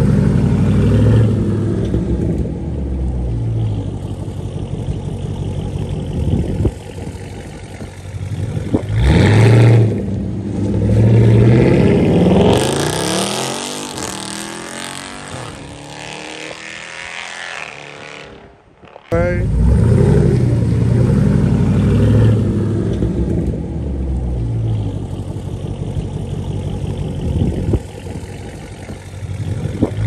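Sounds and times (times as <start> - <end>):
car engine rumbling and revving: 0.0 - 30.0.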